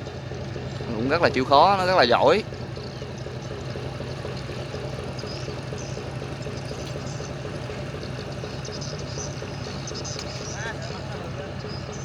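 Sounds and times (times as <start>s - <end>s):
diesel engine pulsing hum: 0.0s - 12.0s.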